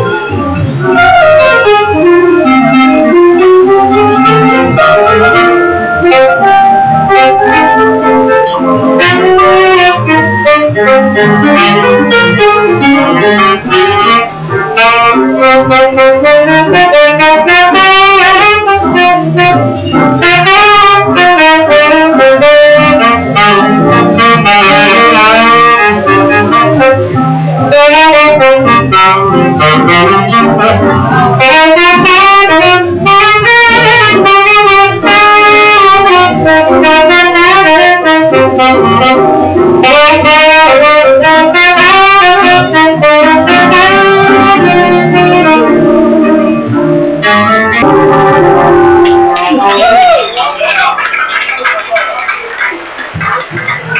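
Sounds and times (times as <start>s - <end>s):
saxophone melody: 0.0s - 50.2s
swing jazz band: 0.0s - 50.2s.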